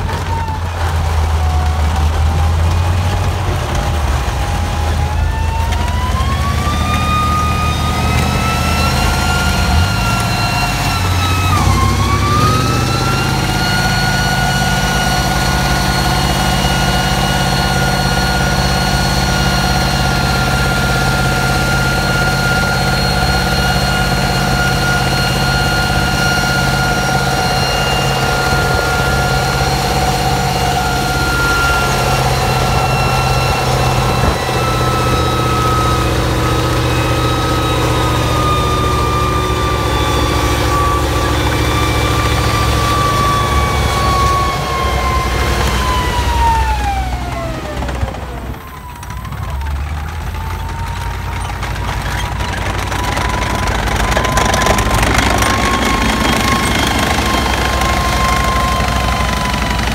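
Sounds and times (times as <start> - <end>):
high engine whine: 0.0 - 59.9
tank diesel engine drone: 0.0 - 59.9.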